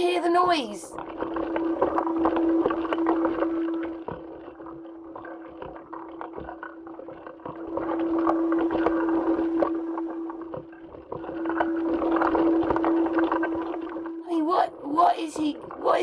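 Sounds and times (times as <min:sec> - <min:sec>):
steady mid-pitched hum: 0:00.0 - 0:16.0.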